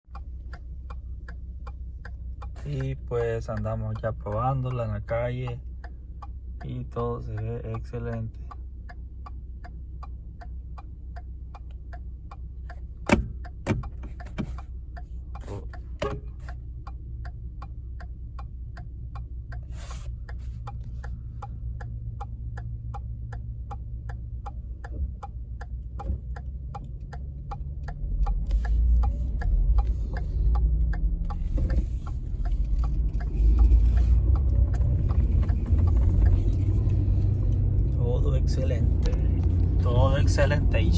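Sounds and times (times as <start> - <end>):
road noise: 0.0 - 40.9
truck engine rumble: 0.0 - 40.9
turn signal ticking: 0.0 - 40.9.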